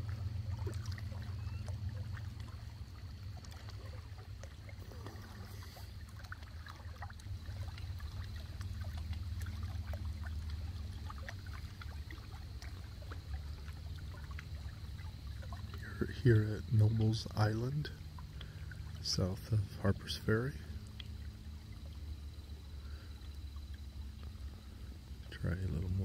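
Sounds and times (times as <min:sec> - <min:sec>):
river water lapping on rocks: 0:00.0 - 0:26.0.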